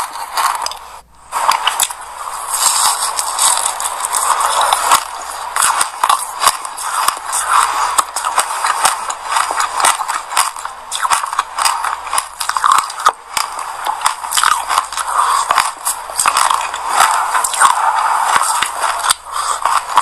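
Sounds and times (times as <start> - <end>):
seeds crunching while chewing: 0.0 - 20.0.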